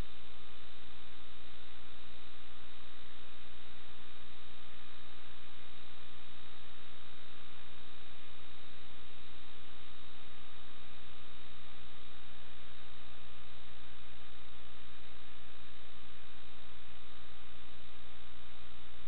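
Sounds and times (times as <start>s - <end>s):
electrical hum: 0.0s - 19.0s
steady hiss: 0.0s - 19.0s.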